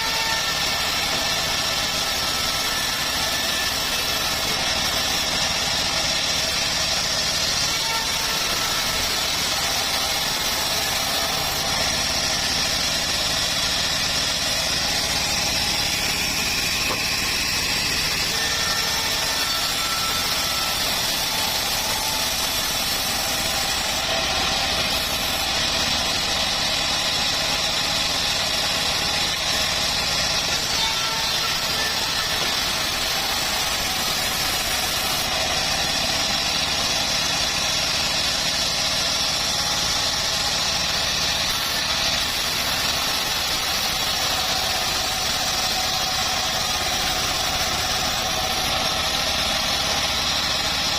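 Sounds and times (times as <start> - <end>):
bandsaw mill running: 0.0 - 50.9.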